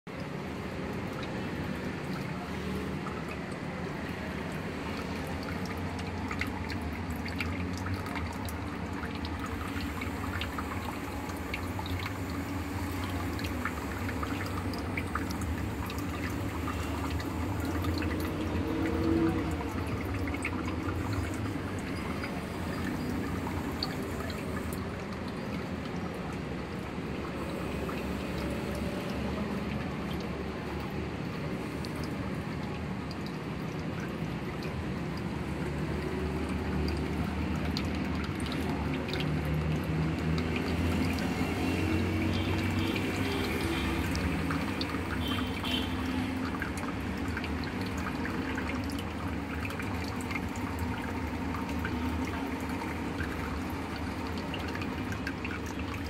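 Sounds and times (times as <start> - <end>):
water pouring into tank: 0.1 - 56.0.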